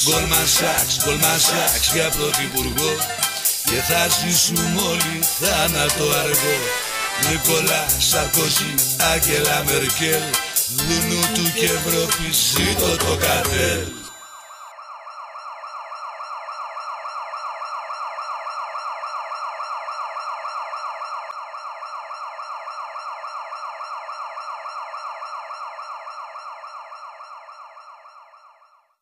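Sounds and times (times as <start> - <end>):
pulsing siren: 0.0 - 29.0.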